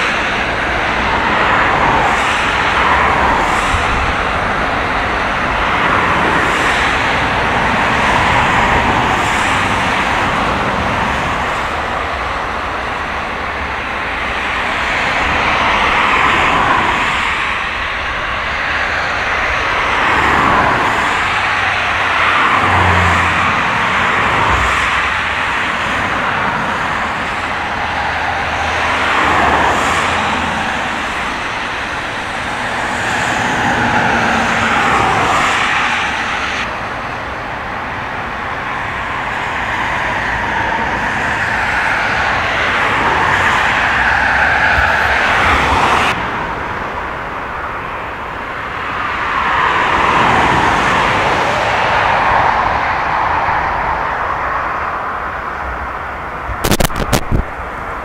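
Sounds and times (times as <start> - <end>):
jet engine rushing: 0.0 - 54.2, 56.4 - 57.9
jet engine whine: 0.0 - 58.0.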